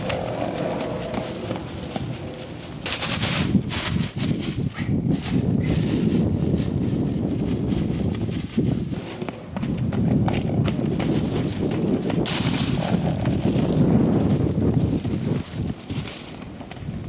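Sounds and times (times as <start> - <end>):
horse hooves trotting on mud: 0.0 - 17.0.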